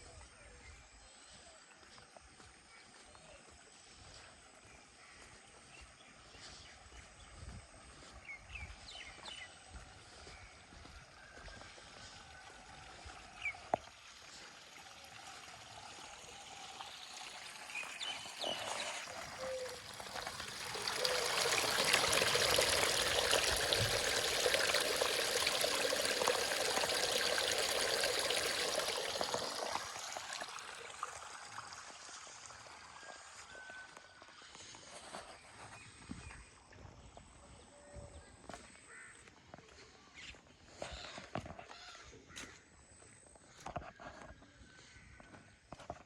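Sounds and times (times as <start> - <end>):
running water in a channel: 1.0 - 39.9.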